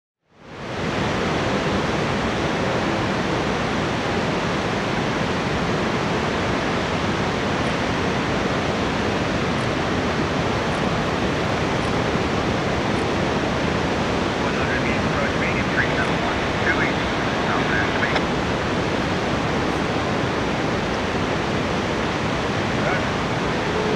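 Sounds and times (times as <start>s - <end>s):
waterfall roaring: 0.7s - 23.9s.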